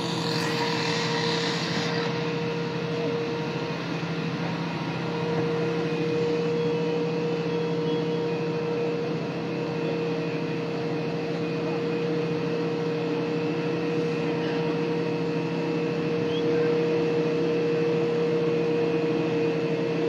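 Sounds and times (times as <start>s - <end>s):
fire engine pump droning: 0.0s - 20.0s.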